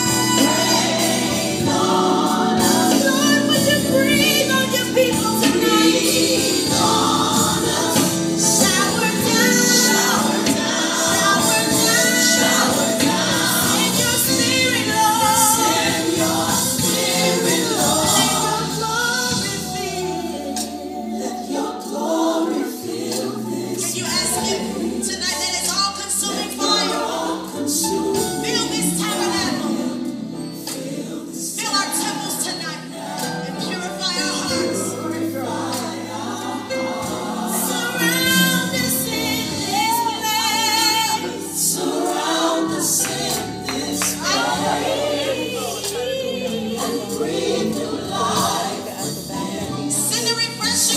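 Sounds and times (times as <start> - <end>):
choir singing gospel music: 0.0 - 50.9.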